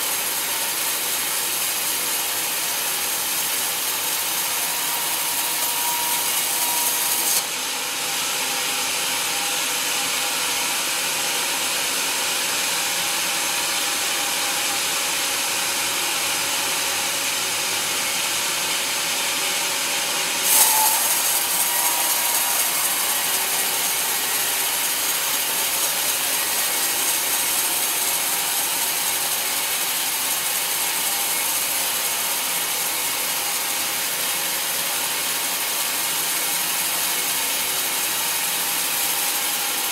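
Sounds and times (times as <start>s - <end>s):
band saw cutting log: 0.0s - 11.0s, 12.1s - 39.9s.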